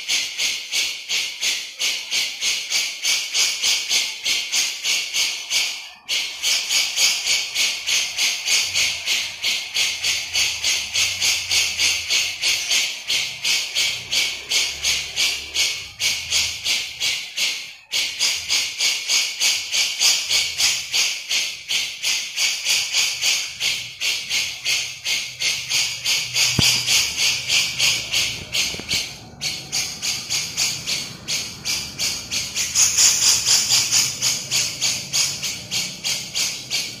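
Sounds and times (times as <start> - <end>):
bird harsh scratchy chatter: 0.0 - 37.0.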